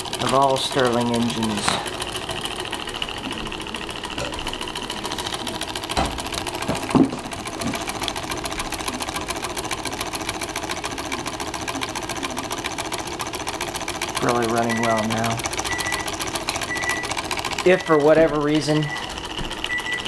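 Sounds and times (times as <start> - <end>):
engine linkage clicking: 0.0 - 20.0.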